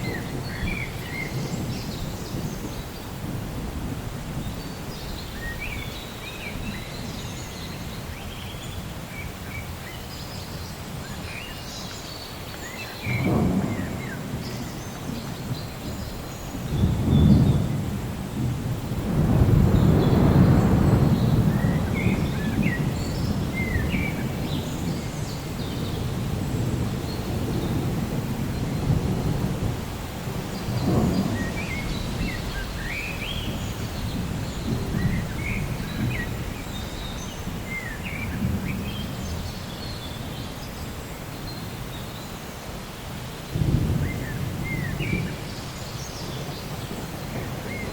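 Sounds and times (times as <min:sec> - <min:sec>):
thunder rumbling: 0:00.0 - 0:08.2, 0:13.0 - 0:42.1, 0:43.2 - 0:47.9
steady rain: 0:00.0 - 0:47.9.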